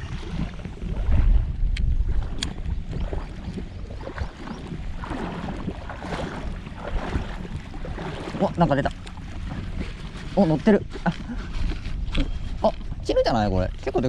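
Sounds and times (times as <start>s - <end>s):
sea water lapping: 0.0s - 14.0s
wind buffeting microphone: 0.0s - 14.0s.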